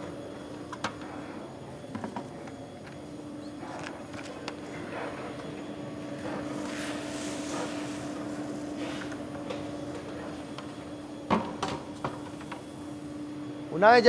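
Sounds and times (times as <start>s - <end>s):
coffee roaster humming: 0.0s - 14.0s.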